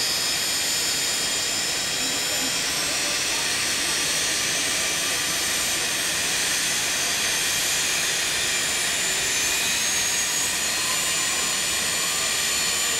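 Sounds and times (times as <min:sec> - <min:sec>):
high-pitched engine whine: 0:00.0 - 0:12.9
jet engines running: 0:00.0 - 0:12.9.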